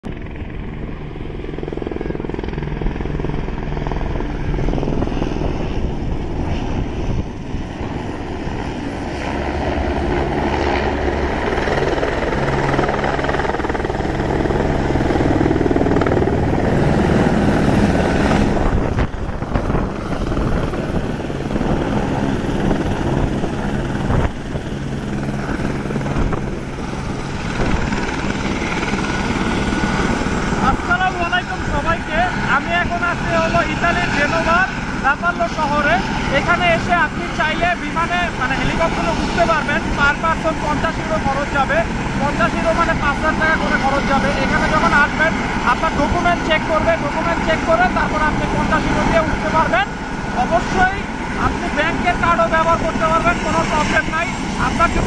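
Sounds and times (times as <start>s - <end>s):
helicopter rotor beating: 0.0s - 55.0s.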